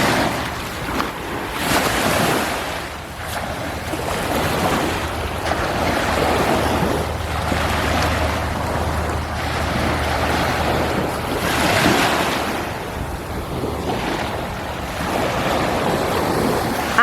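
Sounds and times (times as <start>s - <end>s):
surf washing onto beach: 0.0s - 17.0s
wind rumbling on microphone: 0.0s - 17.0s.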